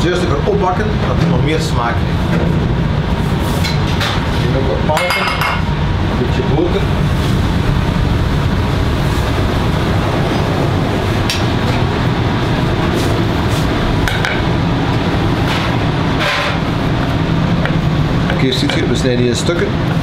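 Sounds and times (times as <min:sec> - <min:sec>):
kitchen ventilation rumble: 0:00.0 - 0:20.0.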